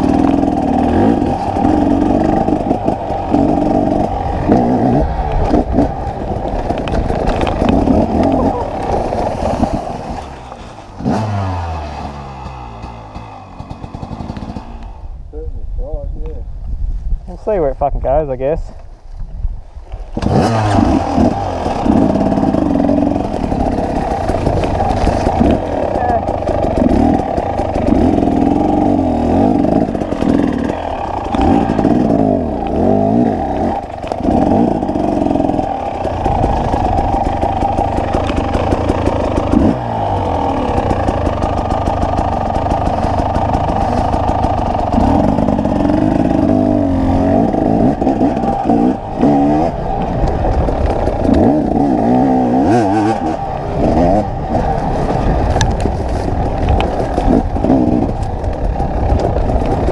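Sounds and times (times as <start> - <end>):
dirt bike engine revving: 0.0 - 15.2, 20.1 - 59.9.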